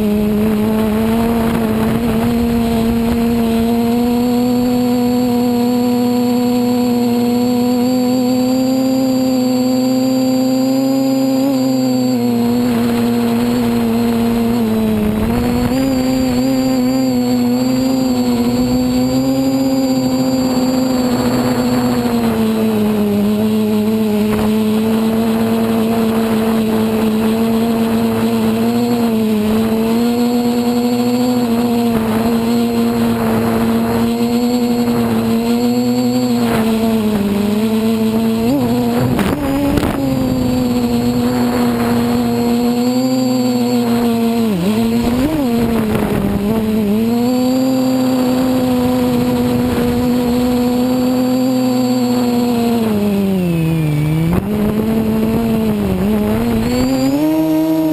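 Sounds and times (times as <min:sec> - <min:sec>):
drone motors whining: 0:00.0 - 0:57.9.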